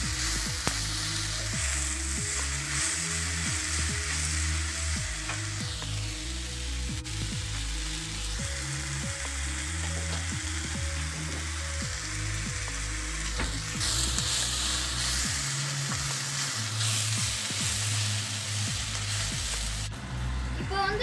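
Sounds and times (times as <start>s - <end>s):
onions sizzling in oil: 0.0s - 19.9s
background music: 0.0s - 21.0s.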